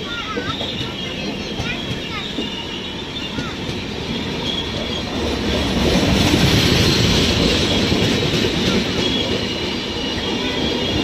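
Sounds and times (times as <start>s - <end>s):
train coaches passing: 0.0s - 11.0s.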